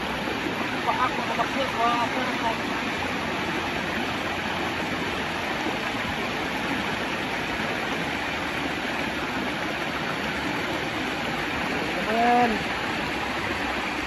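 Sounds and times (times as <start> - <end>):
waterfall and stream rushing: 0.0 - 14.0.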